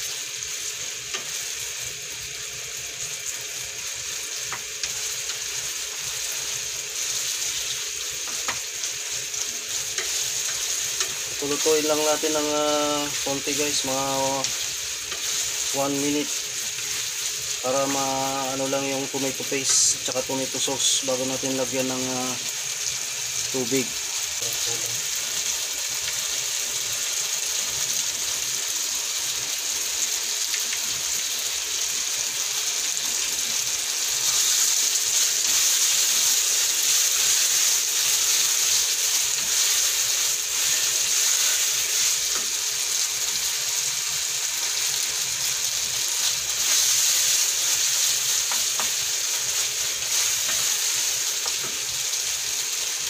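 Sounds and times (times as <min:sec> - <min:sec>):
meat sizzling in sauce: 0:00.0 - 0:53.0.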